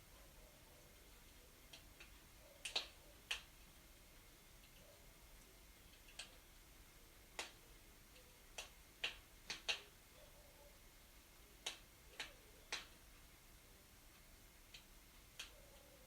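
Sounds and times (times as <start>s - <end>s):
wood fire crackling: 0.9s - 16.0s.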